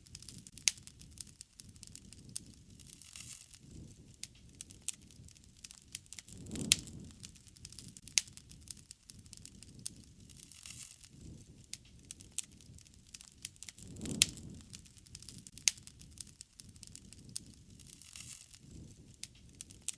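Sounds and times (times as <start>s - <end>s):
loud pops of fire: 0.0s - 19.9s
low rush of flame: 0.0s - 19.9s
wood fire crackling: 0.0s - 19.9s.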